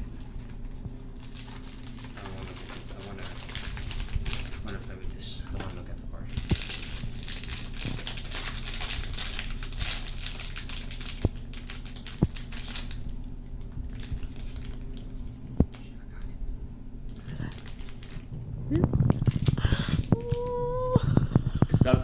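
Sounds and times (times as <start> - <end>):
plastic packaging crinkling: 0.0 - 15.8, 17.1 - 20.8.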